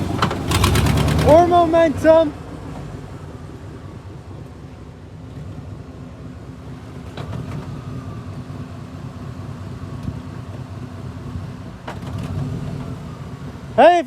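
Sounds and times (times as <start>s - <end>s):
truck engine running under load: 0.0s - 14.0s.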